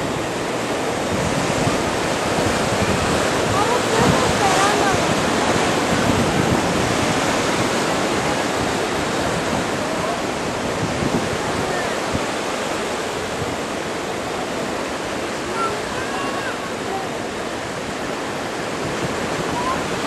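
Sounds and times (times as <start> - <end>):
surf washing against rocks: 0.0 - 20.0.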